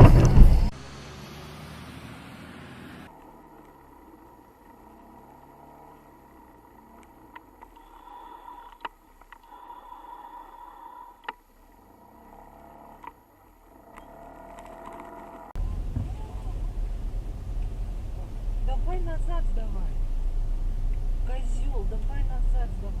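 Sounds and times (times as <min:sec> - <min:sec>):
car hum: 0:00.0 - 0:23.0.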